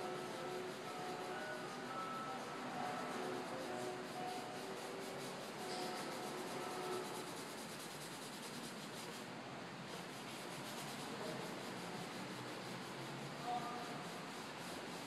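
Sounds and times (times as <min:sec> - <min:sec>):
hand rubbing pastel on paper: 0:00.0 - 0:15.0.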